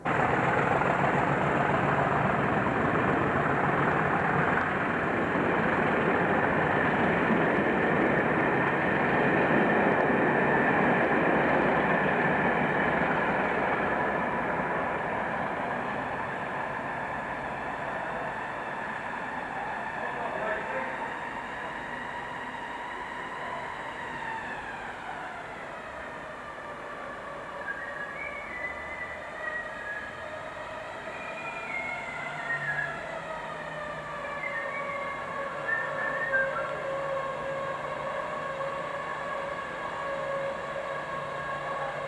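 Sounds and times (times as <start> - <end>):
diesel locomotive engine under power: 0.0 - 42.0.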